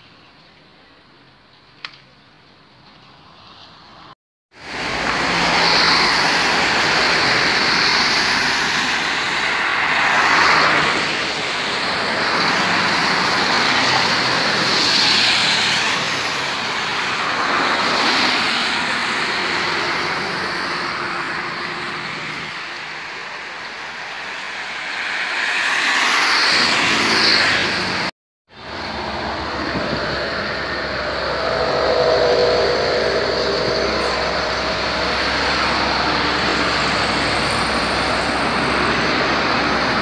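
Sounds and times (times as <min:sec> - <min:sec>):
wind and tyre noise on wet road: 0:03.0 - 0:40.0.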